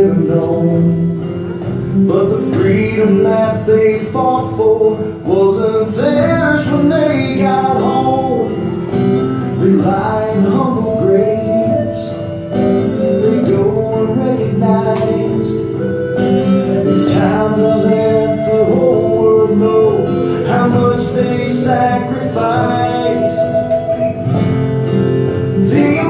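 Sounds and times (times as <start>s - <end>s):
man singing: 0.0s - 24.4s, 25.3s - 26.0s
acoustic guitar: 0.0s - 26.0s.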